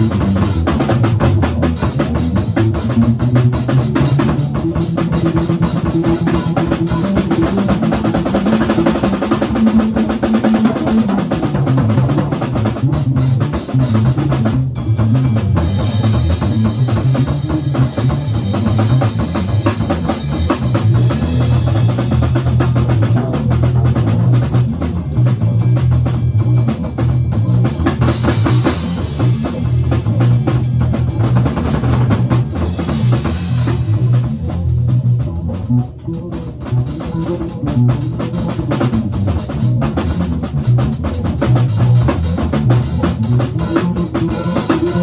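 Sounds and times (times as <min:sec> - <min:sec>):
bass line: 0:00.0 - 0:45.0
drum kit played busily: 0:00.0 - 0:45.0.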